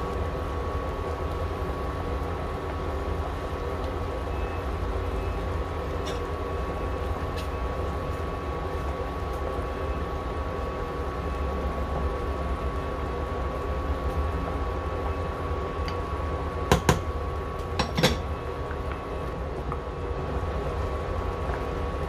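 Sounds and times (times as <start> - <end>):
cooktop fan hum: 0.0 - 22.0
soup bubbling: 0.0 - 22.0.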